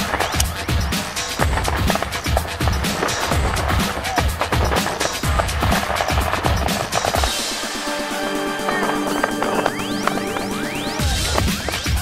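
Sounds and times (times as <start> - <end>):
music with bass-drum beat: 0.0 - 12.0.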